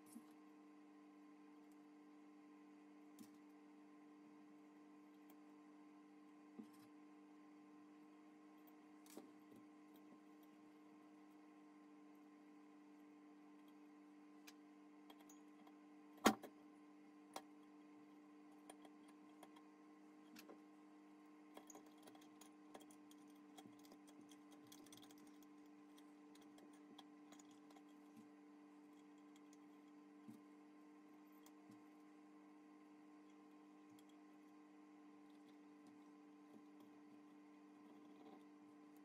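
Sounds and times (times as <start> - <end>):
faint hum: 0.0 - 39.0.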